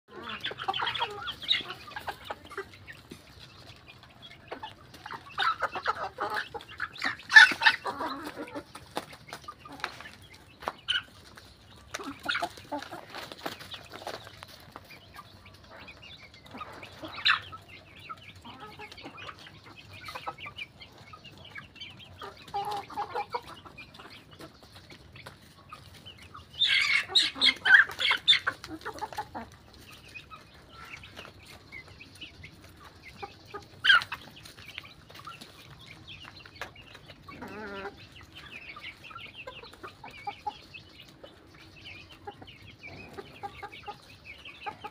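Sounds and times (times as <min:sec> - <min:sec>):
chickens clucking: 0:00.1 - 0:44.9.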